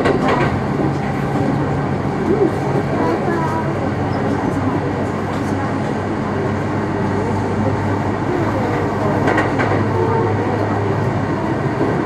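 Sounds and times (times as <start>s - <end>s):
train clatter: 0.0s - 7.0s, 8.4s - 12.0s
train wheels and motors rumbling: 0.0s - 12.0s.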